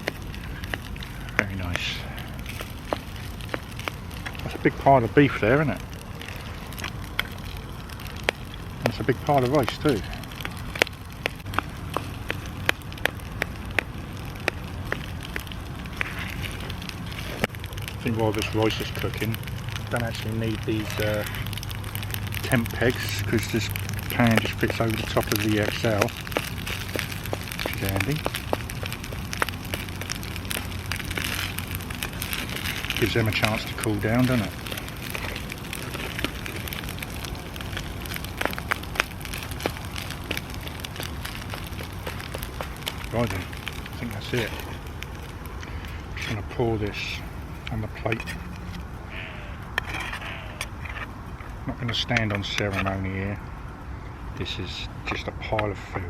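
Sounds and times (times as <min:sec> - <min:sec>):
burner low rumble: 0:00.0 - 0:56.0
rice frying with pops and crackles: 0:00.0 - 0:56.0.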